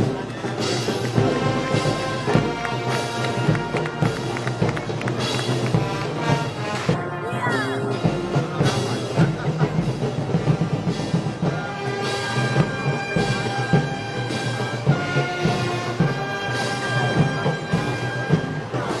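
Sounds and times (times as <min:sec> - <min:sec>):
brass band playing march: 0:00.0 - 0:19.0
drums beating: 0:00.0 - 0:19.0.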